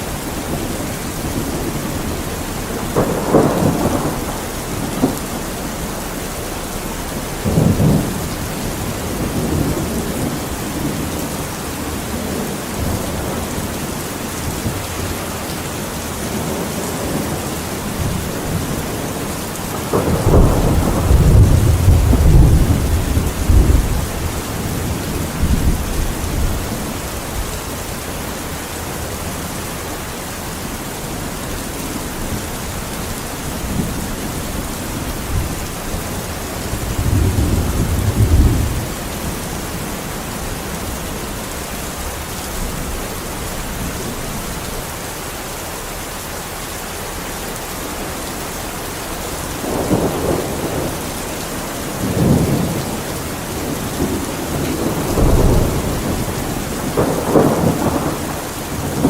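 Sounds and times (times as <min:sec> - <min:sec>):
thunder rumbling: 0:00.0 - 0:44.8, 0:49.1 - 0:59.0
steady rain: 0:00.0 - 0:59.0.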